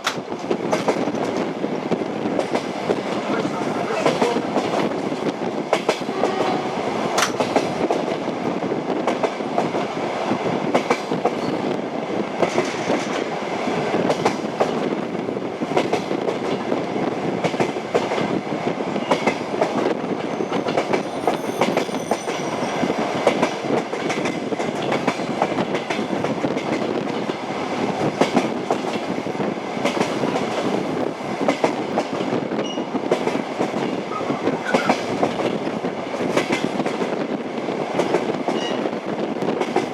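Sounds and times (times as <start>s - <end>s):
train wheels clicking over rail joints: 0.0s - 8.3s, 9.0s - 11.7s, 12.3s - 15.0s, 15.6s - 39.9s
train running noise: 0.0s - 39.9s.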